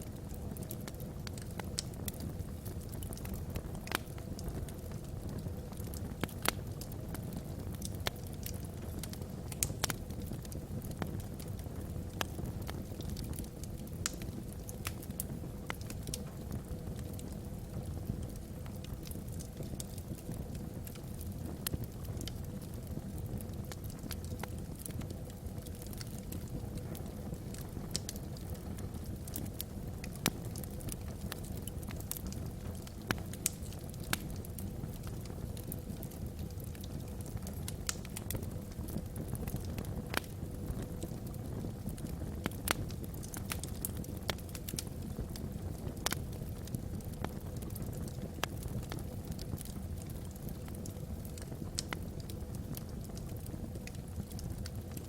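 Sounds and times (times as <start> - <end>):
fire low rumble: 0.0 - 55.0
wood fire crackling and popping: 0.0 - 55.0.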